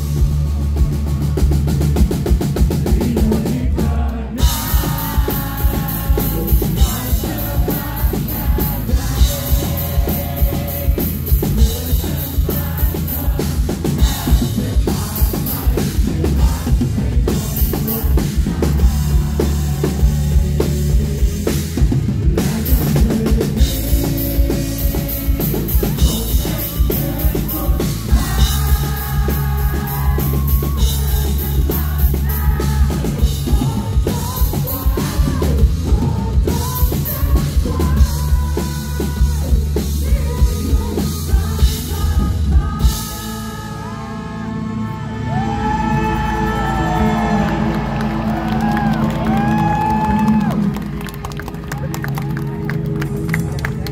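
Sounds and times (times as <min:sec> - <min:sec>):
drum kit beat: 0:00.0 - 0:43.5
live rock band playing: 0:00.0 - 0:53.9
man singing: 0:02.5 - 0:47.9.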